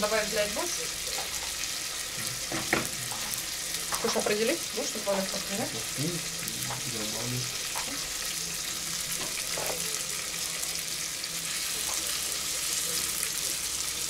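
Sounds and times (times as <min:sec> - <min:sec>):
fish fillets sizzling in pan: 0:00.0 - 0:14.0.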